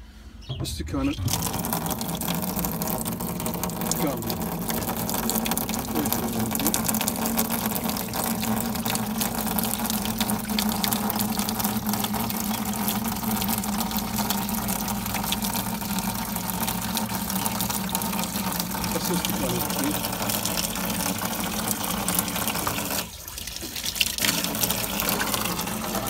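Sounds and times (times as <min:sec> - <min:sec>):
water gushing into trough: 0:01.0 - 0:26.0.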